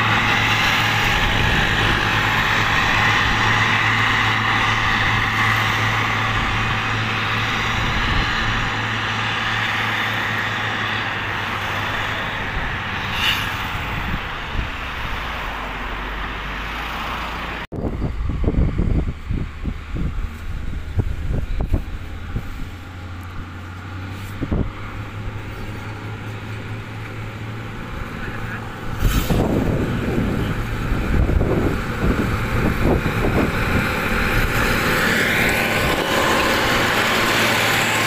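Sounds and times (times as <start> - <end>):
wind buffeting microphone: 0.0 - 9.7, 11.1 - 15.4, 17.7 - 38.0
diesel engine running: 0.0 - 38.0.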